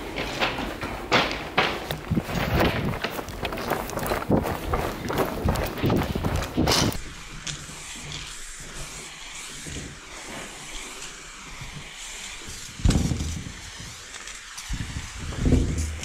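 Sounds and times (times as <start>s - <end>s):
spray paint cans hissing: 0.0s - 16.0s.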